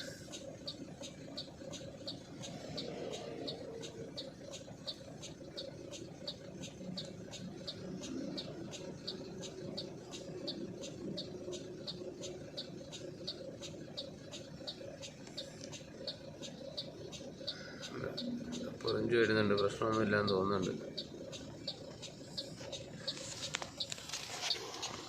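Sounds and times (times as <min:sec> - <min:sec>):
high-pitched ticking: 0:00.0 - 0:25.0
truck engine rumble: 0:00.0 - 0:25.0.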